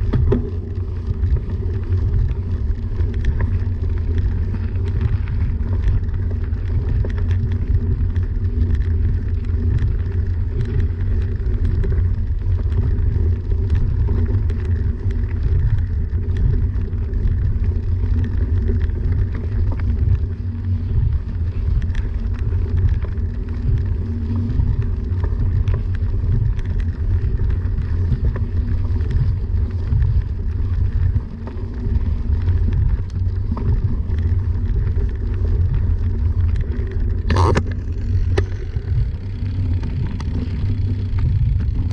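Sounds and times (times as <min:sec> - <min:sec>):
bicycle tyres rolling on dirt: 0:00.0 - 0:41.9
grit ticking under tyres: 0:00.0 - 0:41.9
wind buffeting microphone: 0:00.0 - 0:41.9.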